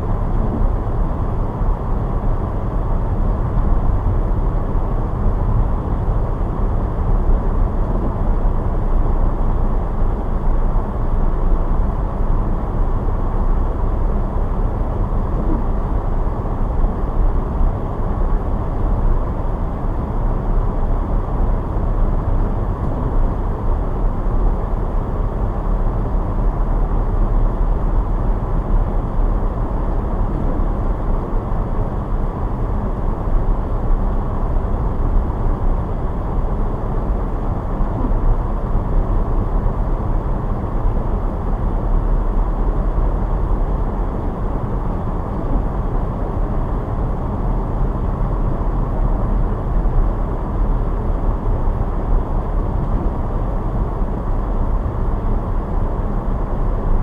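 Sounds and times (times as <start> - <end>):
car tyre and engine rumble: 0.0 - 57.0.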